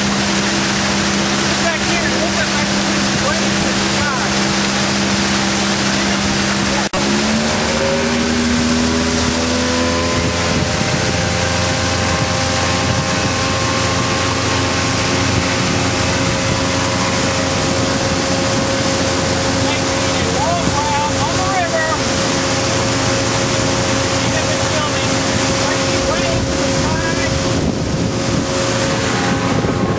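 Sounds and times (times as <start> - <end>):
motorboat engine running: 0.0 - 29.9
rush of wind and water: 0.0 - 29.9.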